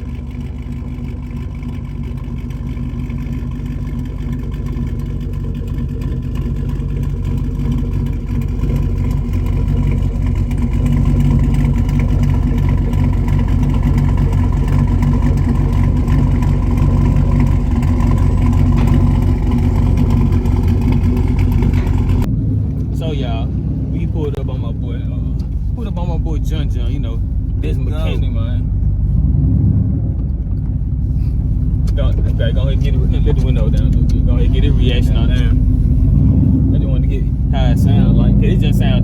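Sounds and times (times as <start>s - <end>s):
loud car engine running: 0.0s - 39.0s.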